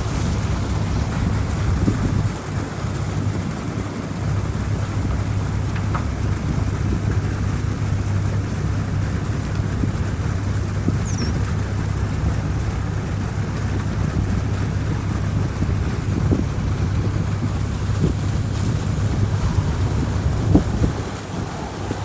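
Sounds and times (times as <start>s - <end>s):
excavator diesel engine running: 0.0s - 22.0s
steady rushing noise: 0.0s - 22.0s.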